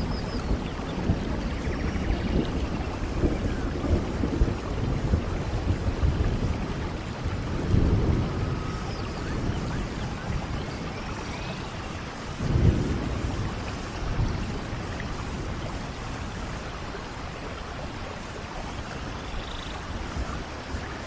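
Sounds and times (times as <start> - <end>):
low rumble of thunder: 0.0 - 21.0
steady rain: 0.0 - 21.0.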